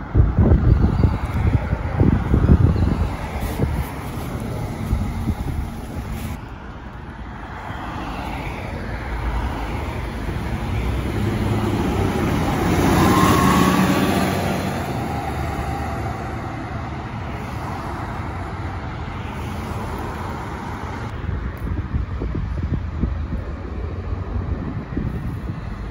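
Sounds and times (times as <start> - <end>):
bus driving past: 0.0 - 25.9
road traffic: 0.0 - 25.9.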